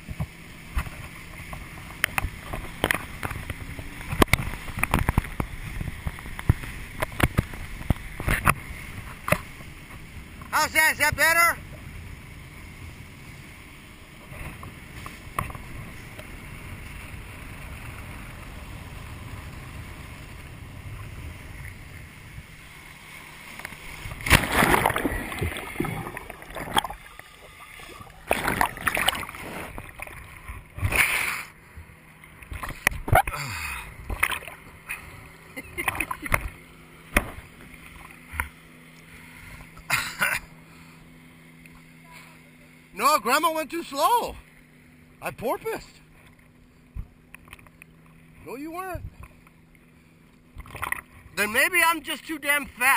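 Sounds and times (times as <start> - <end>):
boat engine humming: 0.0 - 52.9
water rushing: 0.0 - 52.9.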